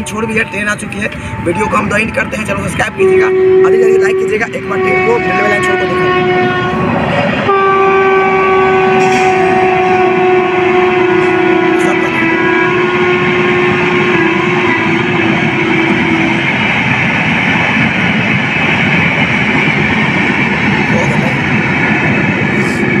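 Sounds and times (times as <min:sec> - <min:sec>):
train passing at speed: 0:00.0 - 0:23.0.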